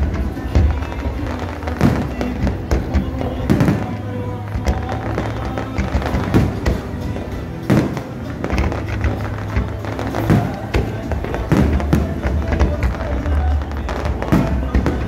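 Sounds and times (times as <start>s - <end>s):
fireworks bangs and crackles: 0.0s - 15.0s
music with steady bass: 0.0s - 15.0s.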